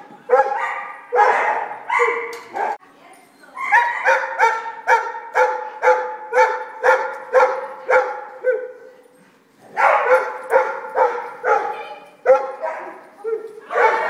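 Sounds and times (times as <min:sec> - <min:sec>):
dog barking: 0:00.3 - 0:02.8, 0:03.7 - 0:08.8, 0:09.7 - 0:14.0.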